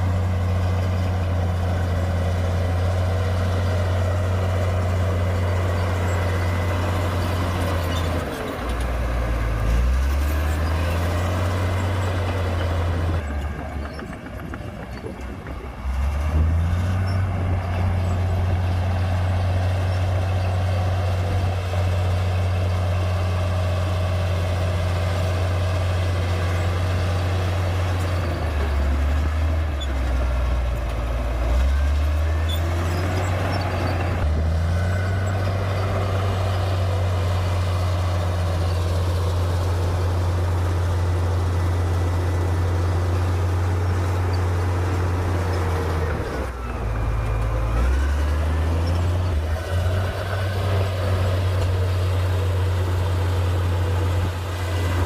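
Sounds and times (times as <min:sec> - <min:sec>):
bulldozer diesel engine: 0:00.0 - 0:55.0.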